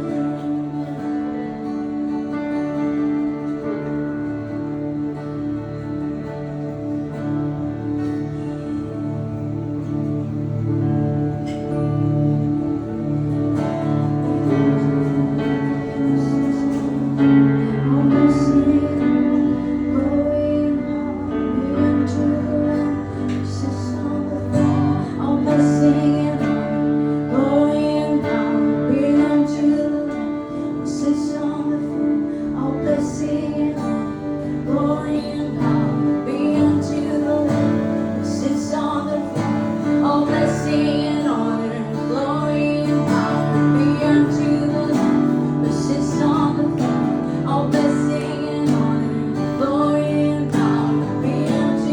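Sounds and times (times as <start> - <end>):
acoustic guitar strumming chords: 0.0 - 51.9
woman singing slow melody: 0.0 - 51.9.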